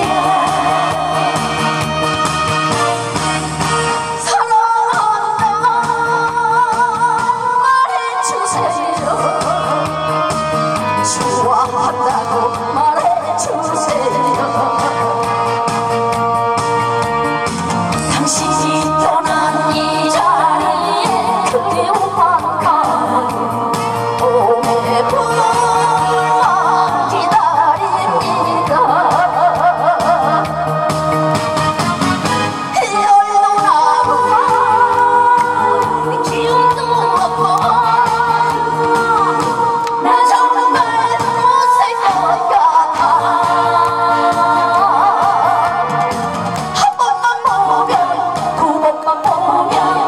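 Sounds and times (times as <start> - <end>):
woman singing with vibrato: 0.0 - 2.6, 4.1 - 16.7, 18.0 - 31.5, 32.6 - 50.0
amplified instrumental accompaniment: 0.0 - 50.0.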